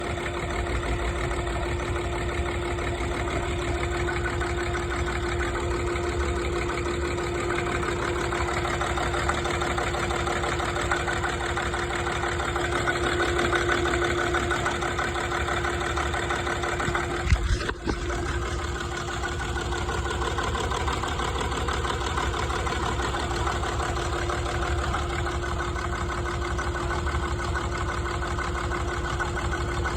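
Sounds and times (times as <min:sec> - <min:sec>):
diesel engine idling roughly: 0:00.0 - 0:29.9.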